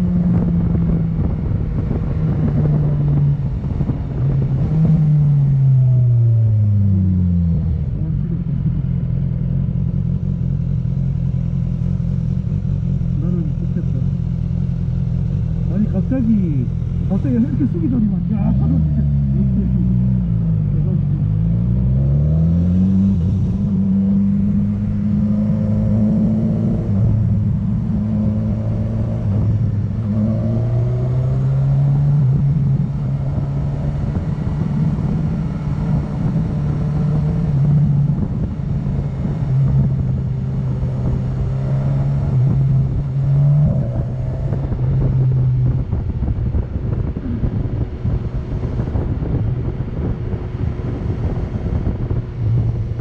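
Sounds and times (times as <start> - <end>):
motorcycle engine: 0.0 - 53.0
road and wind noise: 0.0 - 53.0.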